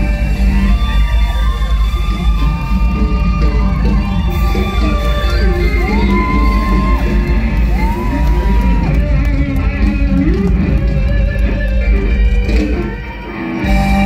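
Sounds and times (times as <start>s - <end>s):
live band playing loud: 0.0s - 14.0s.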